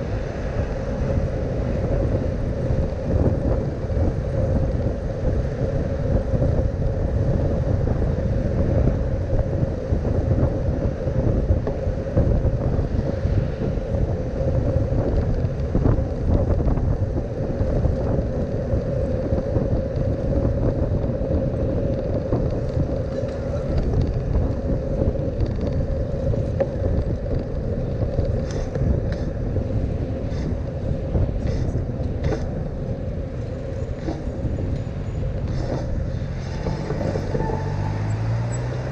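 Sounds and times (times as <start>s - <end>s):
bicycle road and wind noise: 0.0s - 38.9s.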